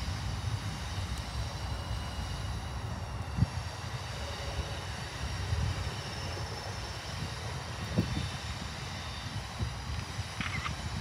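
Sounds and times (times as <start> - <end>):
diesel locomotive rumble: 0.0 - 11.0
wind buffeting microphone: 0.0 - 11.0.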